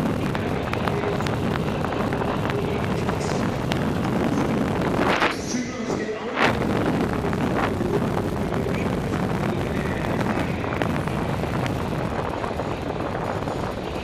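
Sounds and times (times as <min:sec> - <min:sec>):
air rushing on microphone: 0:00.0 - 0:14.0.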